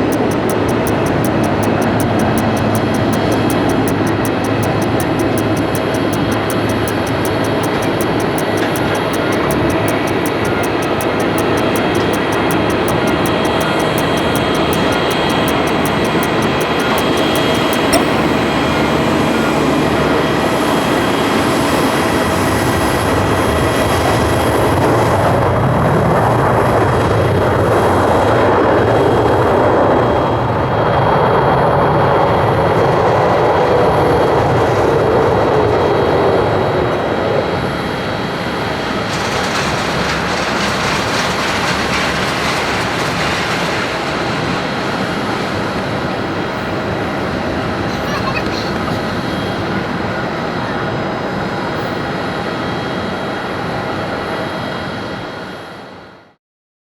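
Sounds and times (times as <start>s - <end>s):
jet engines roaring: 0.0s - 25.6s, 33.0s - 54.4s
jet engine whine: 0.0s - 56.3s.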